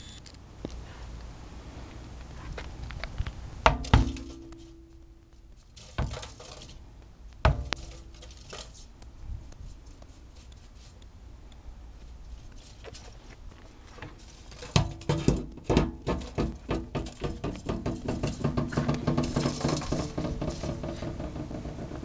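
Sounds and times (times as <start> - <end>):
light rustling: 0.6 - 11.1, 12.0 - 22.0.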